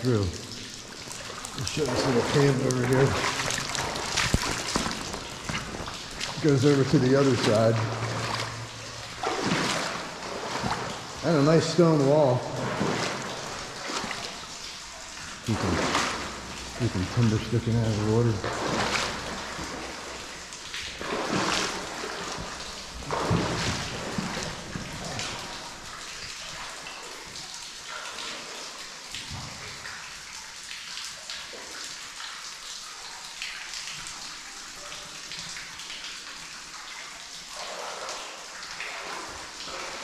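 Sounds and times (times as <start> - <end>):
steady wash of water: 0.0 - 40.0
water dripping in tunnel: 0.0 - 40.0.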